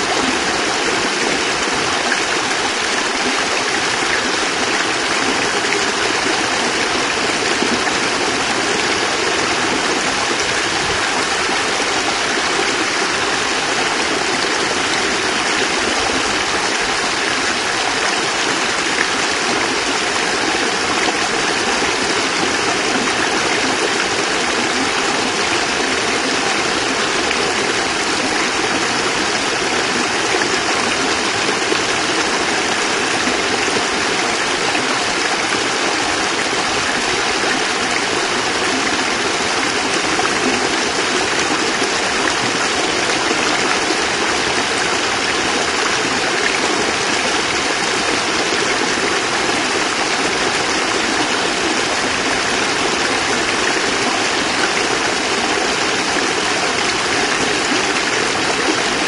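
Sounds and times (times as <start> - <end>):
water pouring and splashing: 0.0 - 59.0.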